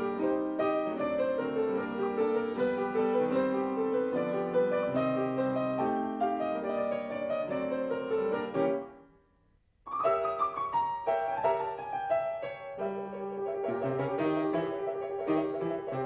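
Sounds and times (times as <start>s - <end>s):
solo piano music: 0.0s - 9.3s, 9.9s - 16.0s.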